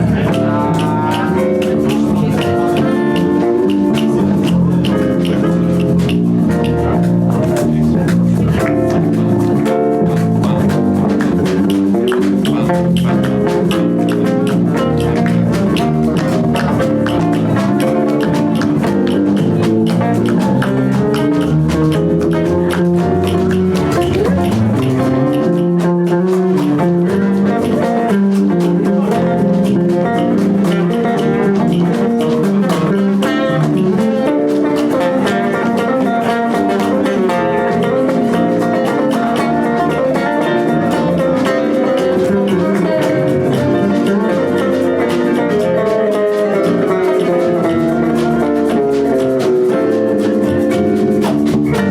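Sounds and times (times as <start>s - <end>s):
guitar: 0.0s - 51.9s
live band playing: 0.0s - 51.9s.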